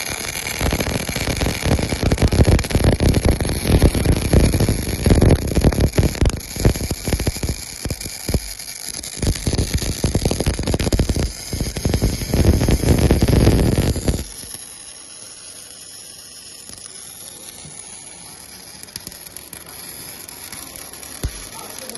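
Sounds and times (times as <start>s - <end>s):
crackling metalworking machine: 0.0s - 21.9s
steady hiss: 0.0s - 21.9s.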